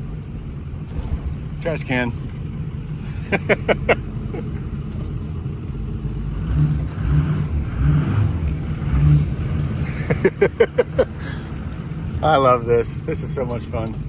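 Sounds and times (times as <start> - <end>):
diesel truck engine under load: 0.0 - 14.0.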